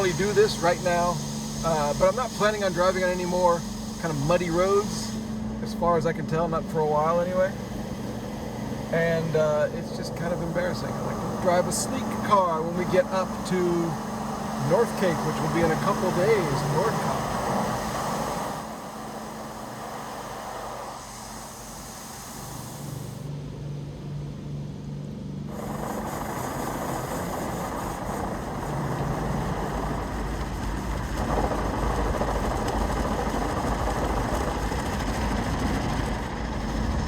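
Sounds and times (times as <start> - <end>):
car wash spraying and rushing: 0.0 - 23.4, 25.3 - 37.0.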